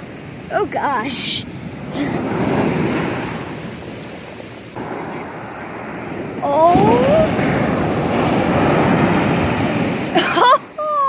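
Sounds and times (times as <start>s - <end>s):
big wave breaking: 0.0s - 11.0s
surf washing up beach: 0.0s - 11.0s.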